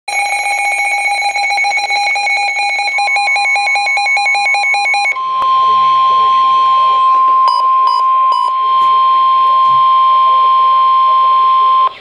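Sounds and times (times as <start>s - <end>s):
rapid electronic alarm beeping: 0.1s - 12.0s
steady warning tone: 0.1s - 12.0s.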